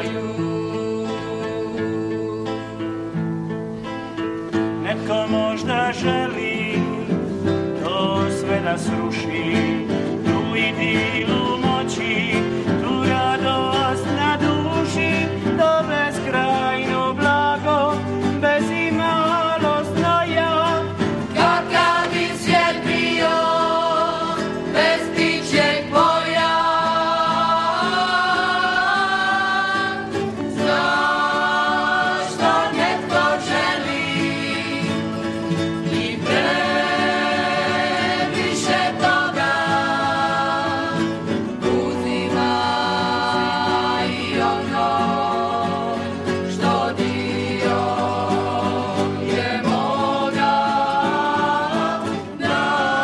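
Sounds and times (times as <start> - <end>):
young voices singing: 0.0 - 3.2, 4.8 - 53.0
strummed acoustic guitar: 0.0 - 53.0.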